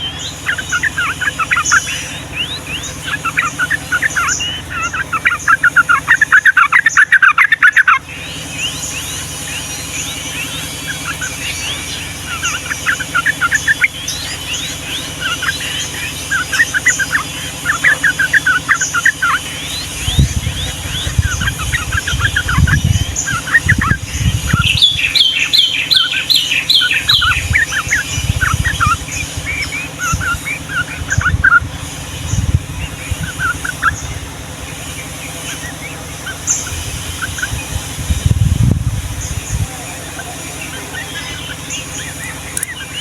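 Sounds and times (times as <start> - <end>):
bird singing rapid chatter: 0.0 - 43.0.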